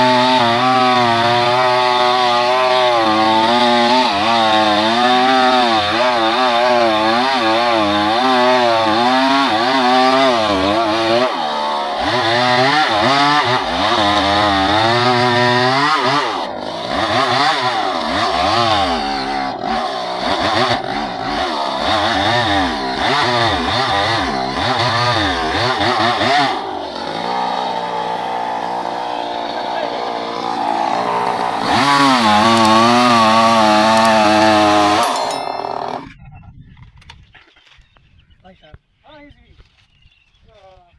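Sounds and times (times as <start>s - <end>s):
chainsaw cutting wood: 0.0s - 36.1s.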